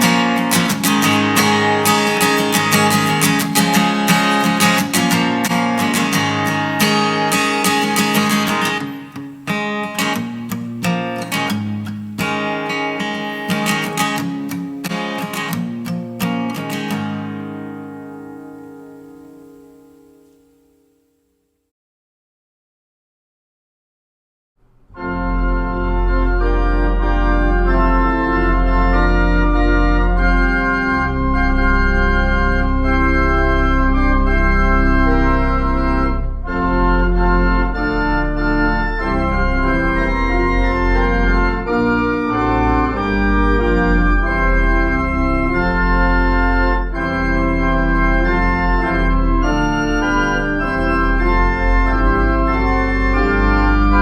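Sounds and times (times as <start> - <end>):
organ playing slow chords: 0.0 - 21.0, 24.7 - 54.0.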